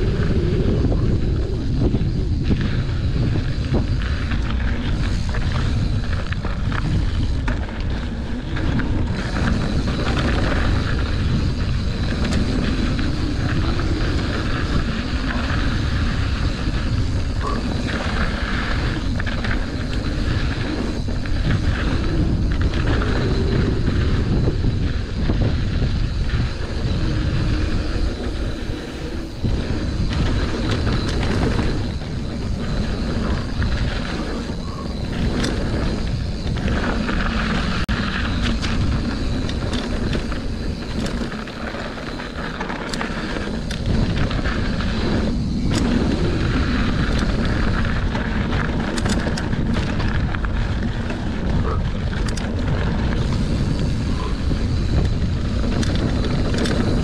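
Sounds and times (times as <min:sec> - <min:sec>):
bike rattles and knocks: 0:00.0 - 0:57.0
bike tyre noise: 0:00.0 - 0:57.0
wind rush on microphone: 0:00.0 - 0:57.0.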